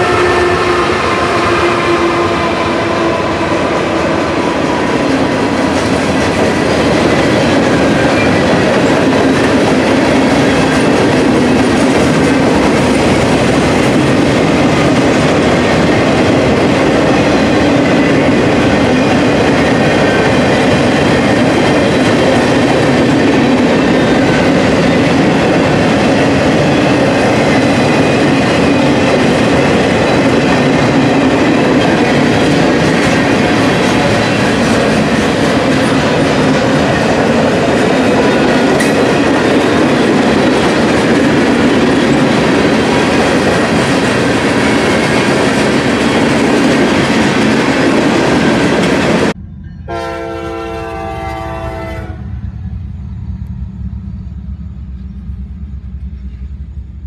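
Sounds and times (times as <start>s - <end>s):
freight train wheels rolling on rails: 0.0s - 50.0s, 50.7s - 57.0s.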